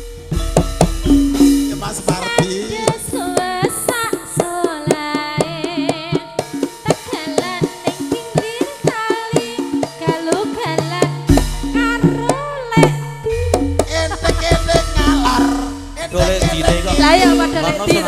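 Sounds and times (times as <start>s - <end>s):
hand drum strokes: 0.0s - 18.0s
held instrumental notes: 0.0s - 18.0s
woman singing: 2.1s - 18.0s.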